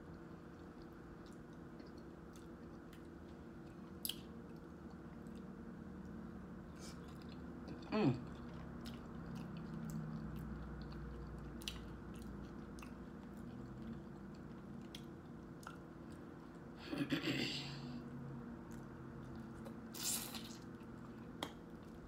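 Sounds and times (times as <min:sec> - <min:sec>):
steady low hum: 0:00.0 - 0:22.0
wet chewing with clicks: 0:00.1 - 0:06.2, 0:06.8 - 0:16.6, 0:18.6 - 0:22.0.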